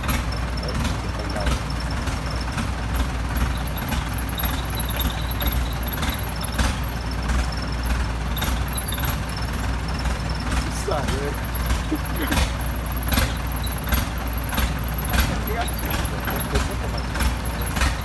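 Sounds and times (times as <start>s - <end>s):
excavator diesel engine running: 0.0s - 18.0s
sharp knocks and clanks: 0.0s - 18.0s.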